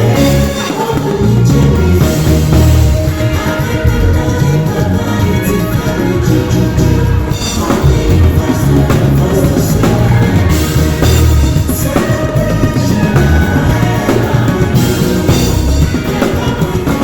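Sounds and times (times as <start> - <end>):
drums: 0.0 - 17.0
heavy bass: 0.0 - 17.0
live band playing loud music: 0.0 - 17.0.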